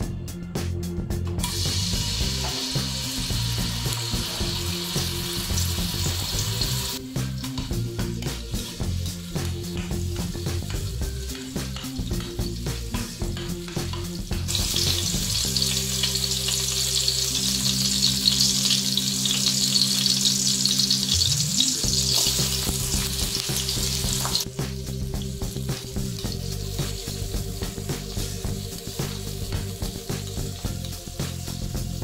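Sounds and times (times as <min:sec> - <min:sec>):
garlic sizzling in oil: 0:01.4 - 0:32.0.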